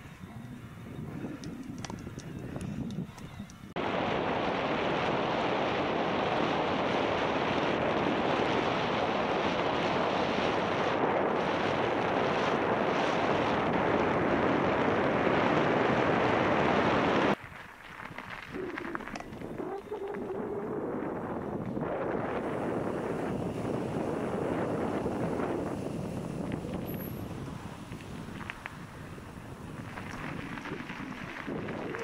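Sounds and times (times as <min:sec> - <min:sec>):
wind rushing on microphone: 0:00.0 - 0:17.4, 0:18.2 - 0:32.0.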